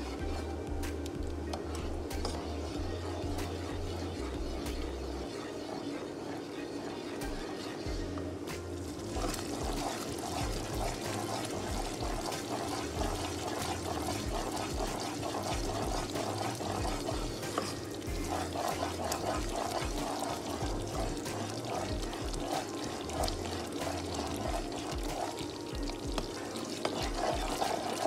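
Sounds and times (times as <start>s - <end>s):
mixture simmering in a pan: 0.0s - 28.0s
spoon stirring in a pan: 0.0s - 28.0s.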